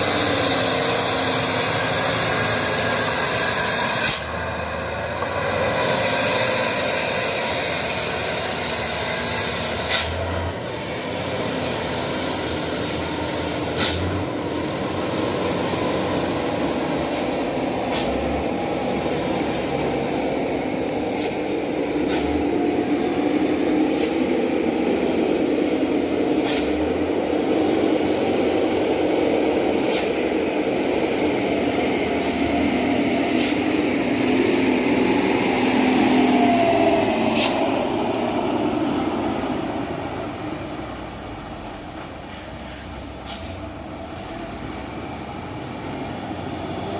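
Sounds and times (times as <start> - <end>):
dump truck engine running: 0.0 - 46.9.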